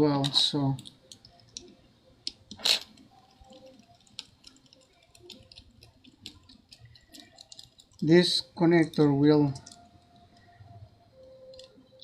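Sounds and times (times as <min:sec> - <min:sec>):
small tools clicking and tapping: 0:00.0 - 0:10.5.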